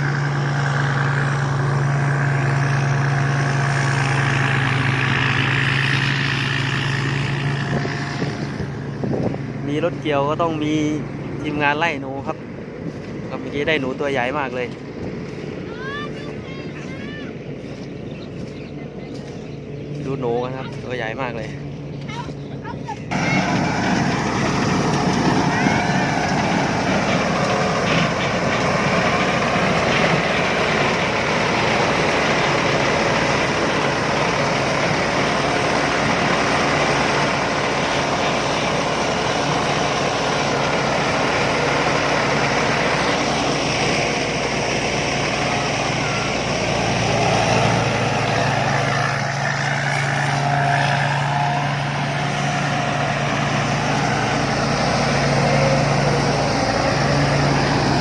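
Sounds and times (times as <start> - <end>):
combine harvester drone: 0.0 - 58.0.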